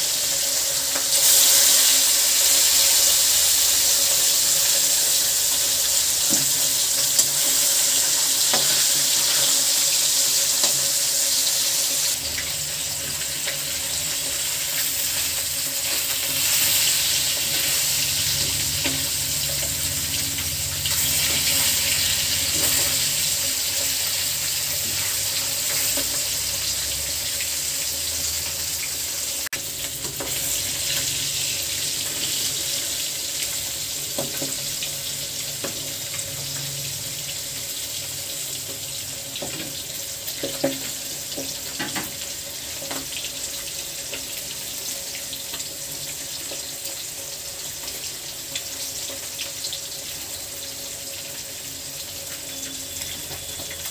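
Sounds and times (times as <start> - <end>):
fish sizzling in oil: 0.0 - 53.9.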